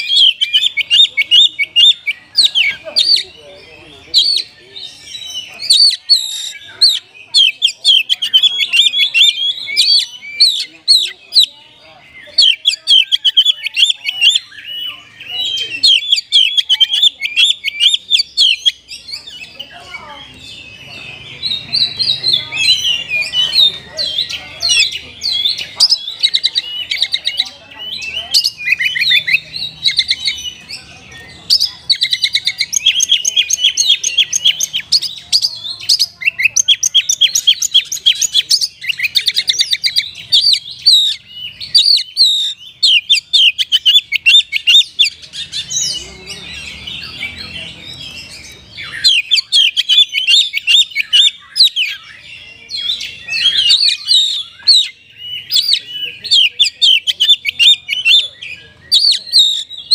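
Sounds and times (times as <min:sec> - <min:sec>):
bird singing rapid trills: 0:00.0 - 0:59.9.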